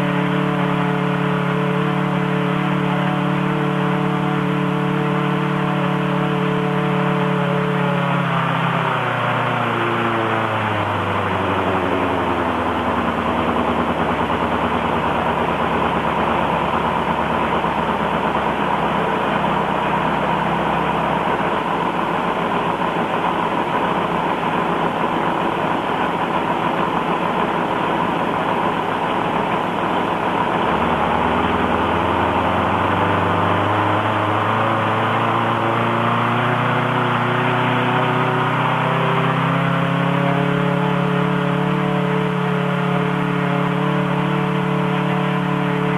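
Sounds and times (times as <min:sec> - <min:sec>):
radial engine running: 0:00.0 - 0:45.9.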